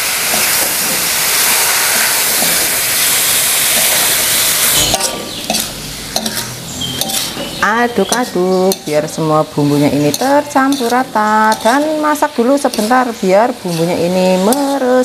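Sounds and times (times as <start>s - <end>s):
stir-fry sizzling in a wok: 0.0s - 15.0s
metal spatula scraping a wok: 0.2s - 15.0s.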